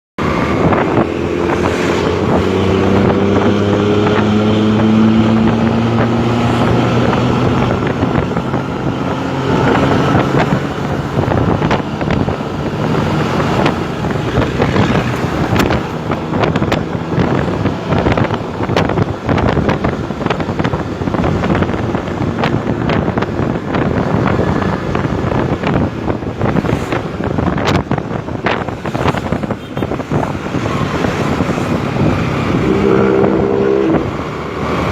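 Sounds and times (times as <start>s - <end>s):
bus engine growling: 0.2s - 34.9s
wind buffeting microphone: 0.2s - 34.9s.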